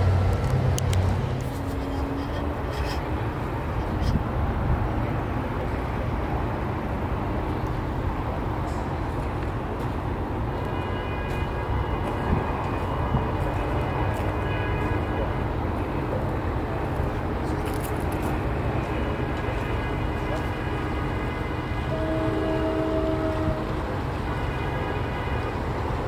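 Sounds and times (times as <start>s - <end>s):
bridge lifting machinery rumble: 0.0s - 26.0s.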